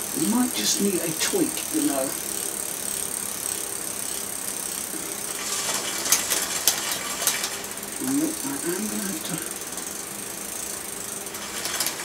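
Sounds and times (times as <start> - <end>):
bike chain whirring: 0.0 - 12.0
freewheel pawls ticking: 0.0 - 12.0.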